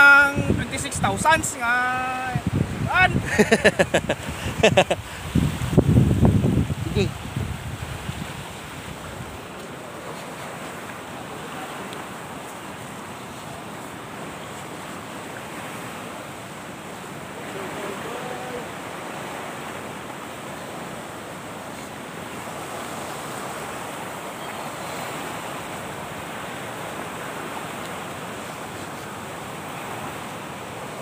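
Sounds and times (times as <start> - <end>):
surf washing on sandy shore: 0.0 - 31.0
wind: 0.0 - 31.0.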